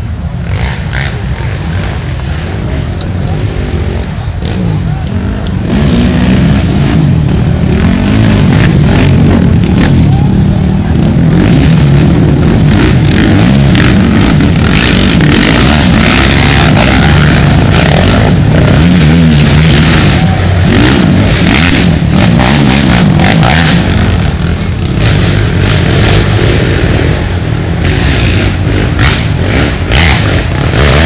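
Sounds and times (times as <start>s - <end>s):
quad engines revving: 0.0s - 31.0s.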